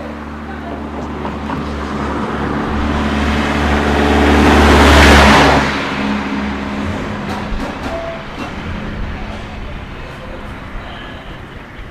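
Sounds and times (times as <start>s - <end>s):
vehicle engine hum: 0.0s - 11.9s.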